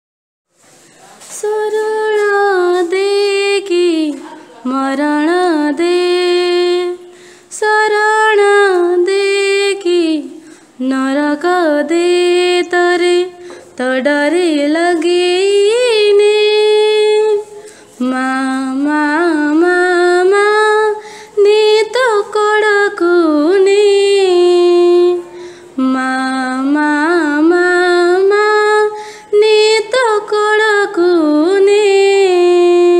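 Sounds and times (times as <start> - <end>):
woman singing: 1.4 - 32.9.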